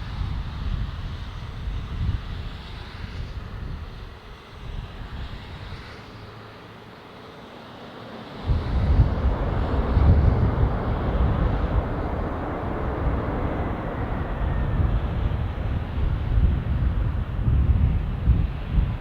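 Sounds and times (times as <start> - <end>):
wind buffeting microphone: 0.0 - 6.5, 8.2 - 19.0
jet engine roar: 0.0 - 19.0.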